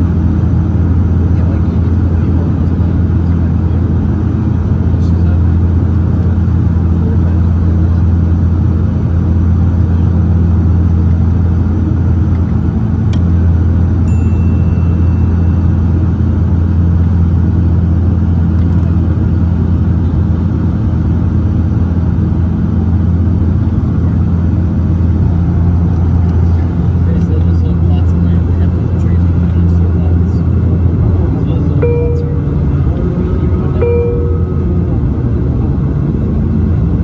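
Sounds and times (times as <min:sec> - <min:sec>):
turboprop engines droning in cabin: 0:00.0 - 0:37.0.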